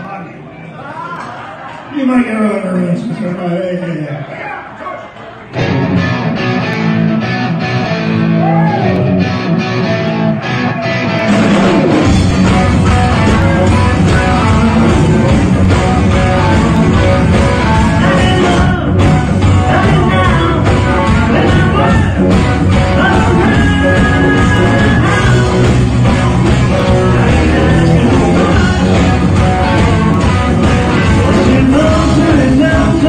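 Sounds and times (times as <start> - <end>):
blues rock band playing: 5.5 - 33.0.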